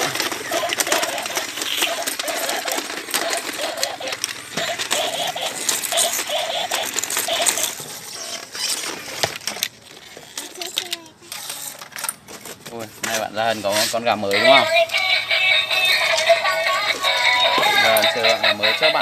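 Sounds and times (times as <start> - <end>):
toy gearboxes clicking and rattling: 0.0 - 19.0.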